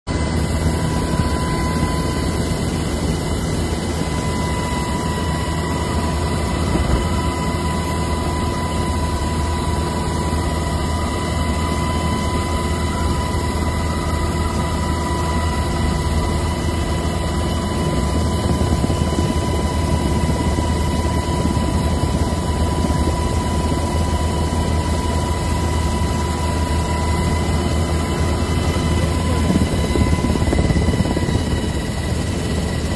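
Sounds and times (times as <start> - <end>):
helicopter rotor and engine noise: 0.1 - 32.9
high whine: 0.1 - 32.9.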